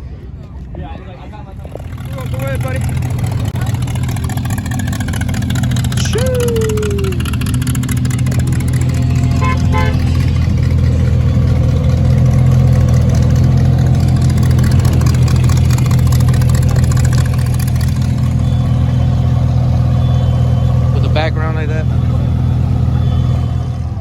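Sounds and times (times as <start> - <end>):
car engine idling: 1.4 - 24.0.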